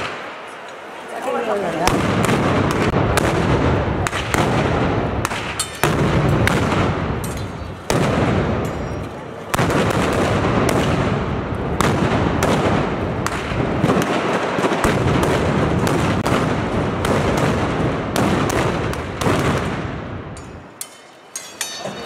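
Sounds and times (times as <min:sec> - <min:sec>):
crackle of blank gunshots: 0:01.9 - 0:08.8, 0:09.5 - 0:20.2.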